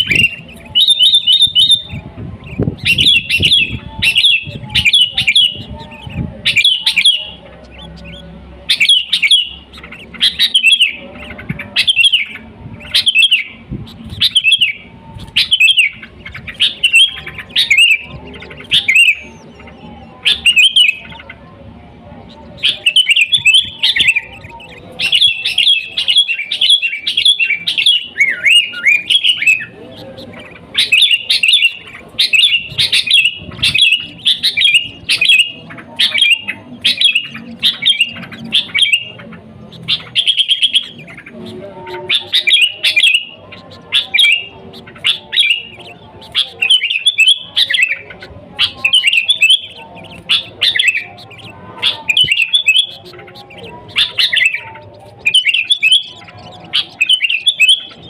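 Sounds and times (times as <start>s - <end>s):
bird singing high chirps: 0.0s - 21.5s, 22.1s - 58.0s.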